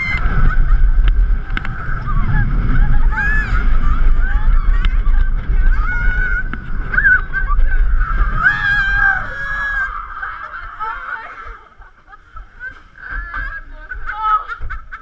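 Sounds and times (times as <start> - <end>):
riders whooping and shrieking: 0.0 - 15.0
roller coaster rumbling on track: 0.0 - 15.0
wind on microphone: 0.0 - 15.0.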